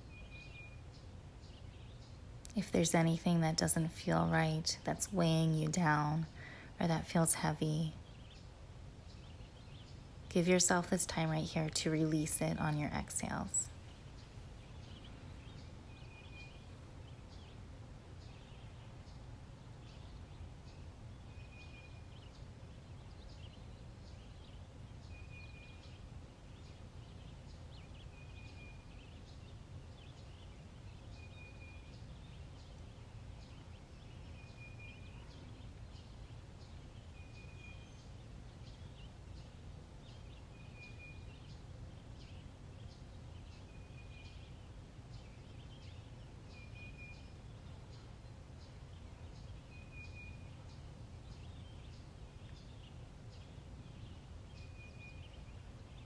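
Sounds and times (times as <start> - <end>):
birds chirping: 0.0 - 56.0
low outdoor rumble: 0.0 - 56.0.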